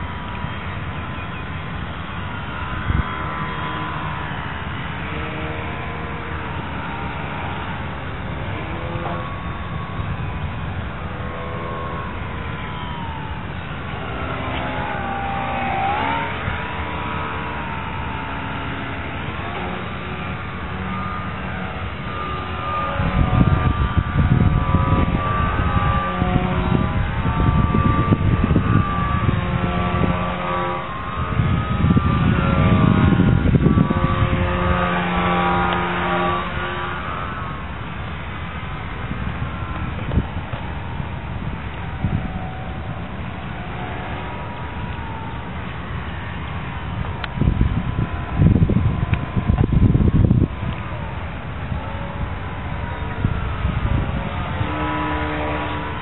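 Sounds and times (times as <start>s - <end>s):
rc plane motor whining: 0.0s - 56.0s
wind buffeting microphone: 0.0s - 56.0s.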